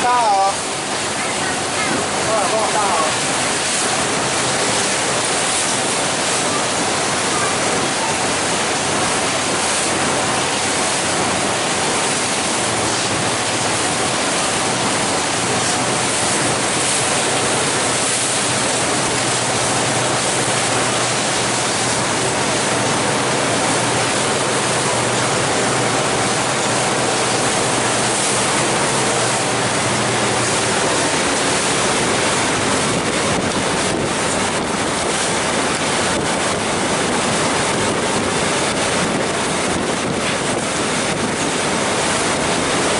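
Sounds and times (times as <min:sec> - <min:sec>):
water rushing past boat hull: 0:00.0 - 0:42.9
wind buffeting microphone: 0:00.8 - 0:42.9.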